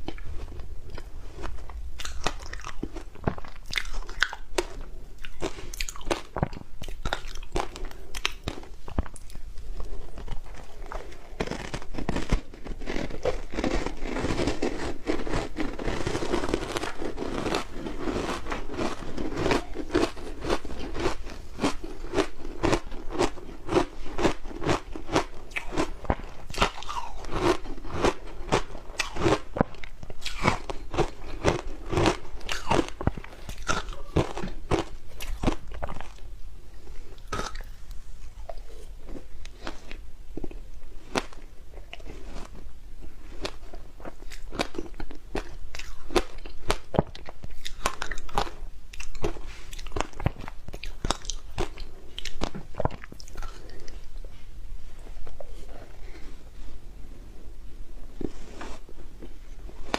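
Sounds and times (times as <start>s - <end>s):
ice being chewed: 0.0s - 36.3s, 36.9s - 54.3s.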